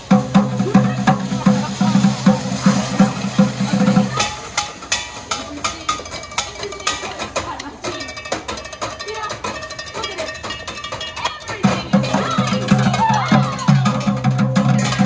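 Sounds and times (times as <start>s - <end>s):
pots and pans struck rhythmically: 0.0s - 15.0s.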